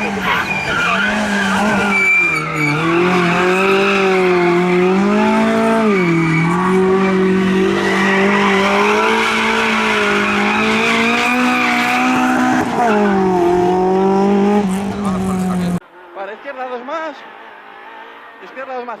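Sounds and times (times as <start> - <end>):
rally car engine at high revs: 0.0 - 18.6.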